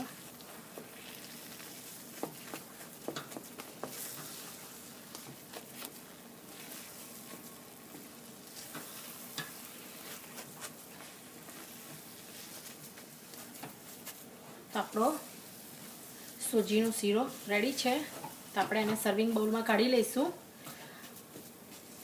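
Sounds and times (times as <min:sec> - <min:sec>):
soft steady sizzle: 0:00.0 - 0:22.0
spoon stirring against pan: 0:00.0 - 0:22.0.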